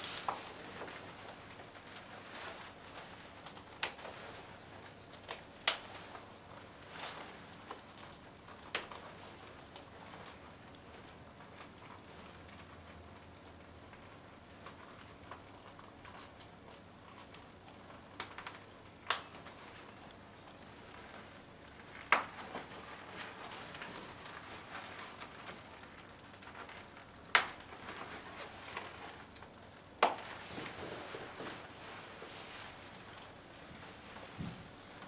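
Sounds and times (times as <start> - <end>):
stiff plastic cape rustling: 0.0 - 35.0.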